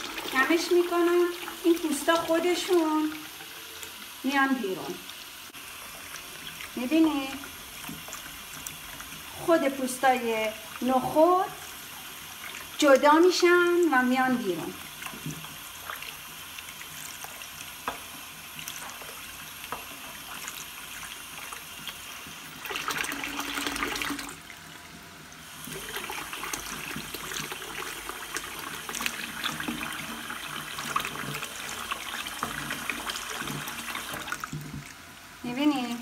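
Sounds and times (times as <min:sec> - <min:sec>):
tap water running into pot: 0:00.0 - 0:36.0.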